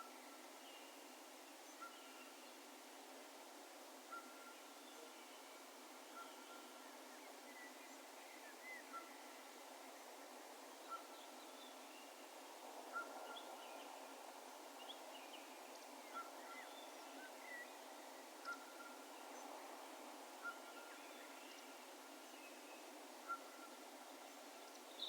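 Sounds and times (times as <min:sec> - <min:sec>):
low rural hiss: 0:00.0 - 0:25.0.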